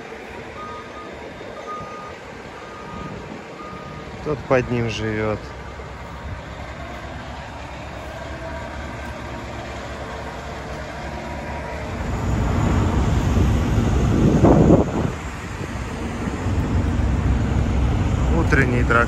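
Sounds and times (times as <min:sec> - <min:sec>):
heavy vehicle rumbling: 0:00.0 - 0:19.0.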